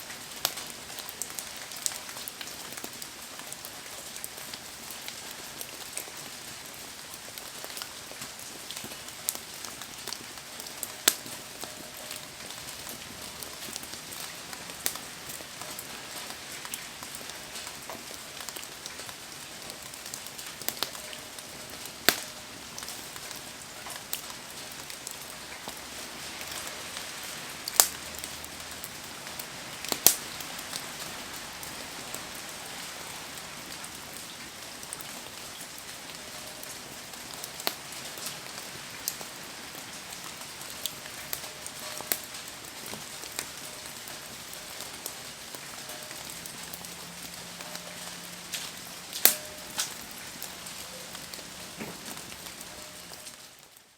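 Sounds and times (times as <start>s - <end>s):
rain hiss: 0.0s - 53.9s
burning wood popping and crackling: 0.2s - 30.8s, 36.5s - 53.4s.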